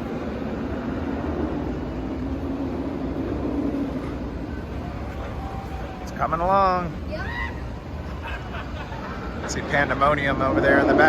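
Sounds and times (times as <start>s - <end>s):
machine rumbling with droning hum: 0.0s - 11.0s.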